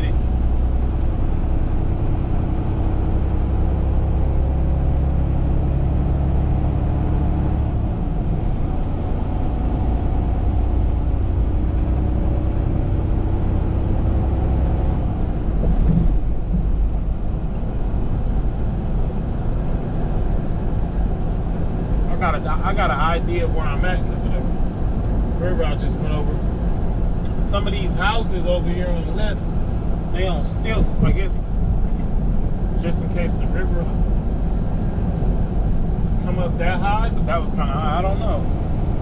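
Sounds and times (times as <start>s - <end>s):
truck diesel engine droning: 0.0s - 39.0s.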